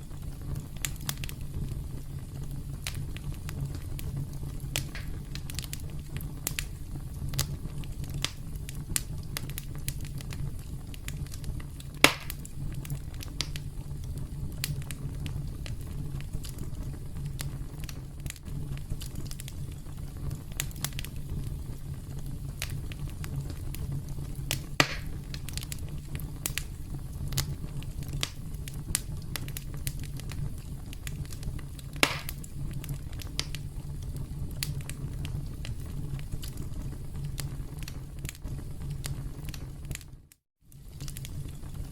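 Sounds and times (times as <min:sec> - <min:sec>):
campfire crackling: 0:00.0 - 0:41.9.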